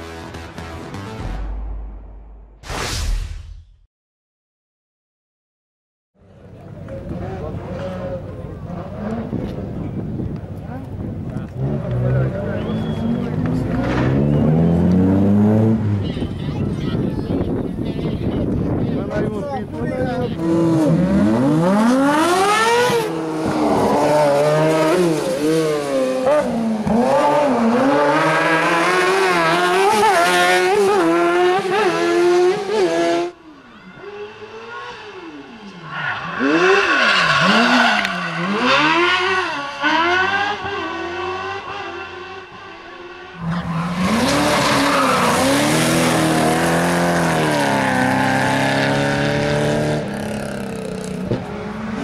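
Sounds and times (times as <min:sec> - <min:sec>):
rally car engines revving: 0:06.5 - 0:52.0.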